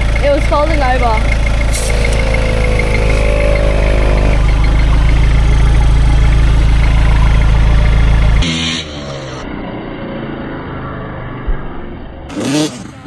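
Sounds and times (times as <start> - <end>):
diesel engine throbbing: 0.0 - 13.0.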